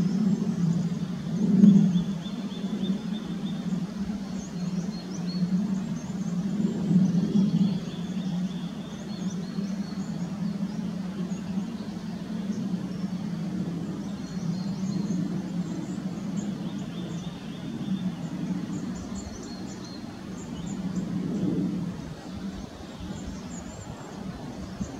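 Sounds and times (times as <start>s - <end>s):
low drone: 0.0s - 24.9s
small birds chirping: 0.0s - 24.9s.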